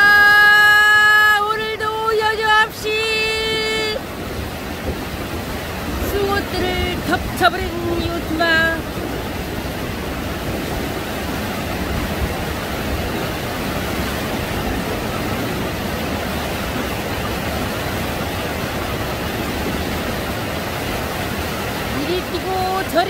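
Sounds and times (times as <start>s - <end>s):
sea surf washing and foaming: 0.0s - 23.0s.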